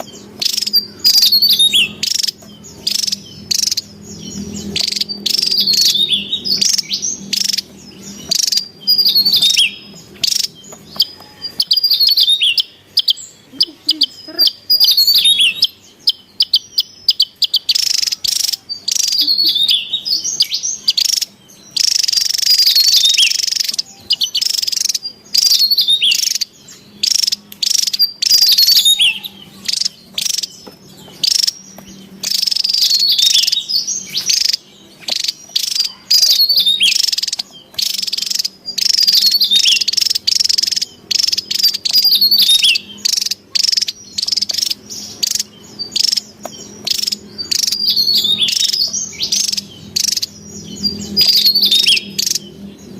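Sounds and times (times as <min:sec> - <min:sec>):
bird calling with chattering notes: 0:00.0 - 0:52.9.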